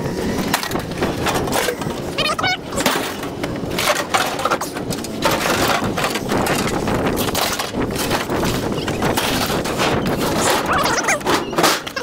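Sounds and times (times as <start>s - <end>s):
scrap metal clattering and banging: 0.0s - 12.0s.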